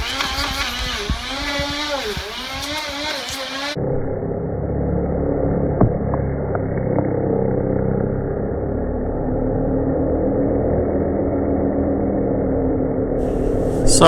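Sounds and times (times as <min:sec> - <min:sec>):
slowed grinder low drone: 0:00.0 - 0:14.0.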